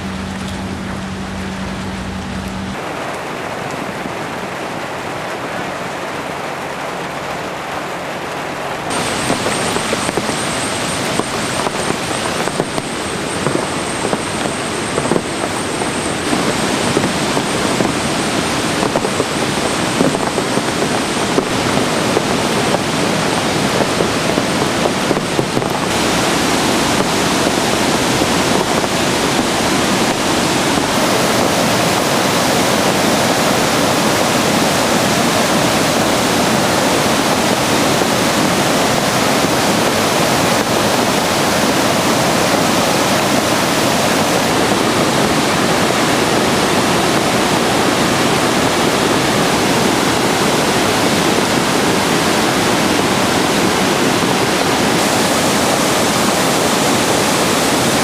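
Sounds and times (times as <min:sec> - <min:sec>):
rushing water: 0:00.0 - 0:58.0
strong wind: 0:00.0 - 0:58.0.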